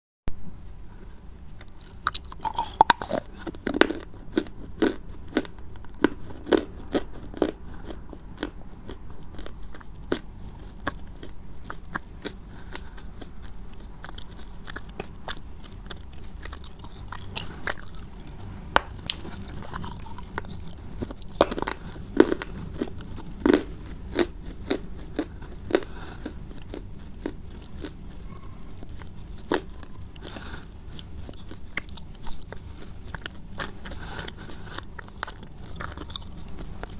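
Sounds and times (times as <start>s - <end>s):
crunchy food being chewed: 1.0s - 36.9s.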